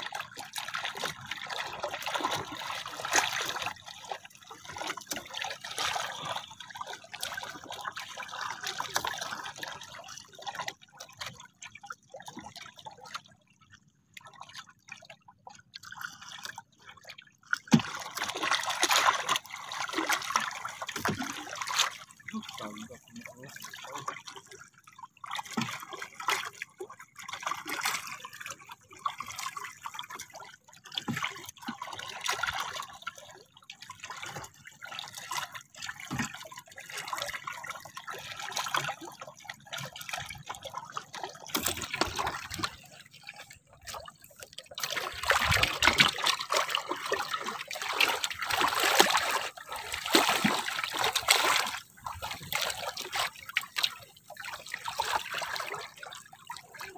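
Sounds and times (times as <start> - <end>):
small water splashes: 0.0 - 56.9
water lapping against boat: 0.0 - 56.9.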